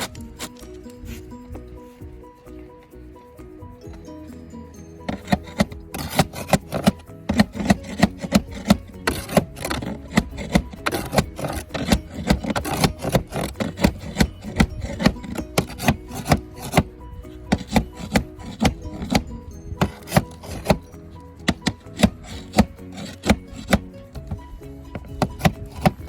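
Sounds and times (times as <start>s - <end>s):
rasping strokes on roofing: 0.0s - 3.8s, 4.6s - 26.0s
background music: 0.0s - 26.0s.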